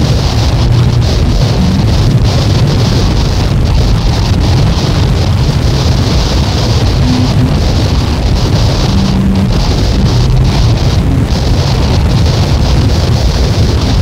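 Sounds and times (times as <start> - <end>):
rumbling noise music: 0.0 - 14.0
low held tones: 0.2 - 5.0, 5.6 - 12.3.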